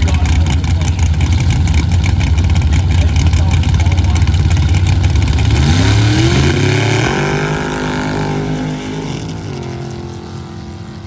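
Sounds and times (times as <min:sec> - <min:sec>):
drag racing engine revving: 0:00.0 - 0:11.0.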